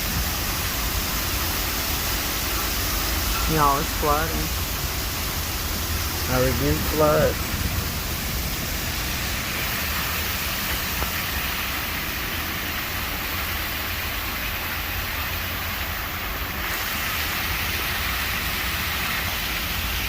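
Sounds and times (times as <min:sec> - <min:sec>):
low wind rumble: 0:00.0 - 0:16.7
heavy rain pouring: 0:00.0 - 0:20.0.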